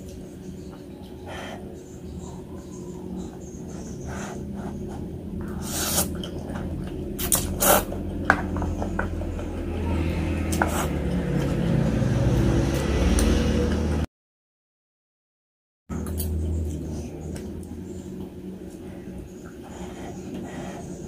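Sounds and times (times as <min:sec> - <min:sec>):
steady low hum: 0:00.0 - 0:14.1, 0:15.9 - 0:21.0.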